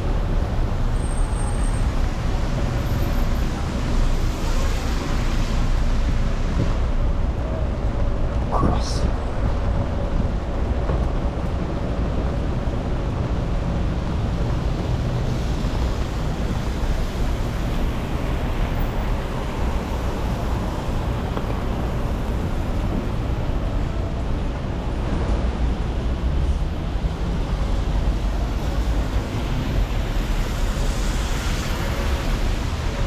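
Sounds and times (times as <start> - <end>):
traffic rumble: 0.0 - 33.0.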